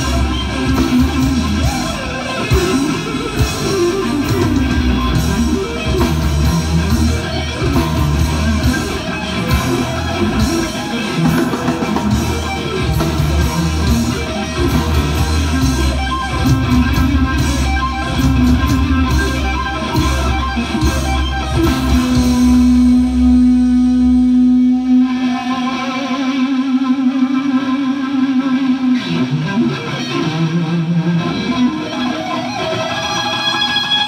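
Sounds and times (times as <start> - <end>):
electric guitar lead: 0.0 - 34.0
heavy metal band playing live: 0.0 - 34.0.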